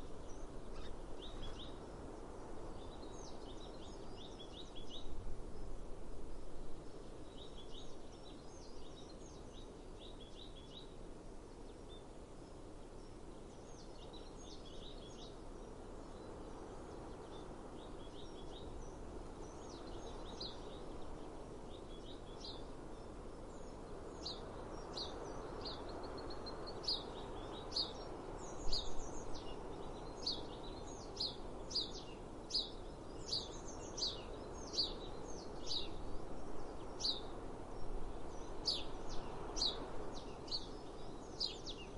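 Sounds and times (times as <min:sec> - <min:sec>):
small songbirds chirping: 0:00.0 - 0:41.9.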